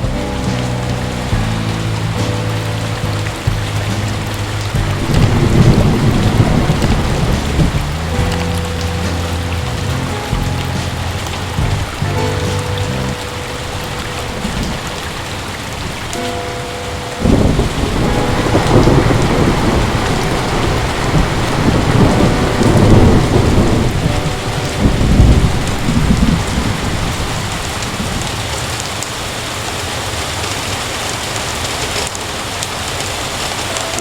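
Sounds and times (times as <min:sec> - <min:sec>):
thunder rumbling: 0:00.0 - 0:29.3
heavy rain: 0:00.0 - 0:34.0.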